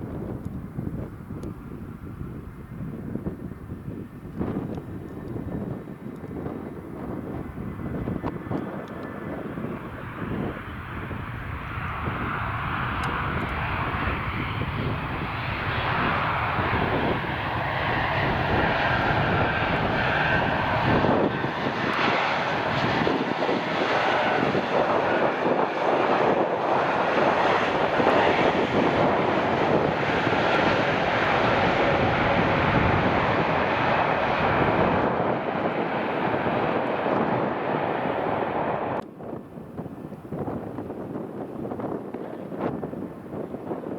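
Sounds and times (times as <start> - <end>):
jet engines passing: 0.0 - 43.9.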